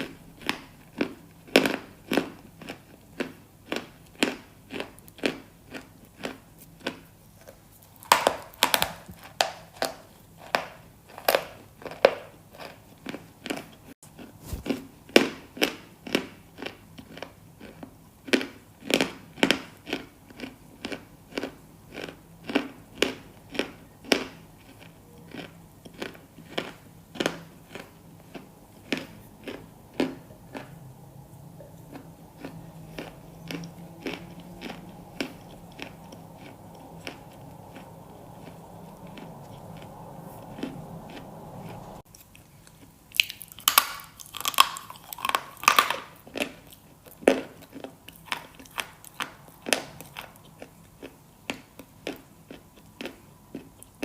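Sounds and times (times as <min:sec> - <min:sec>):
crunchy food being chewed: 0:00.0 - 0:54.0.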